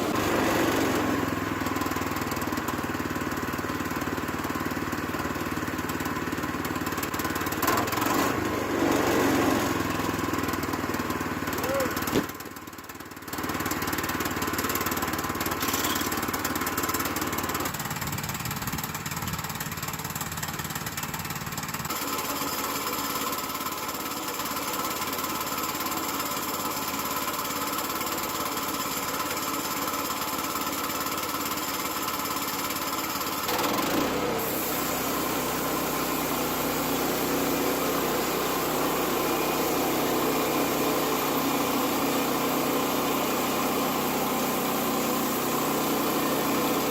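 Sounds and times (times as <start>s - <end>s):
sawmill gasoline engine running: 0.0s - 46.9s.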